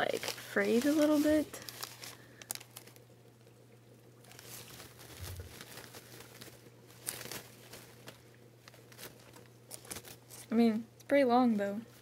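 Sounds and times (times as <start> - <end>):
plastic leaves rustling and clicking: 0.0 - 3.1, 4.2 - 10.8.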